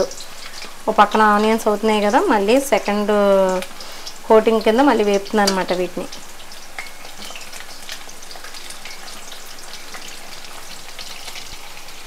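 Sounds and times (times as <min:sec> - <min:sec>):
oil sizzling with pops and crackles: 0:00.0 - 0:12.0.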